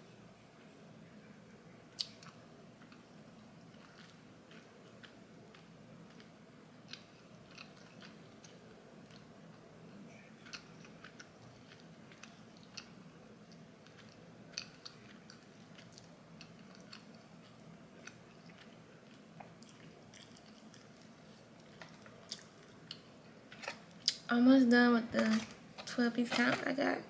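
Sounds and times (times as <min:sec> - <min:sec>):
low steady hum: 0:00.0 - 0:27.0
person chewing: 0:02.0 - 0:09.6, 0:10.2 - 0:24.2.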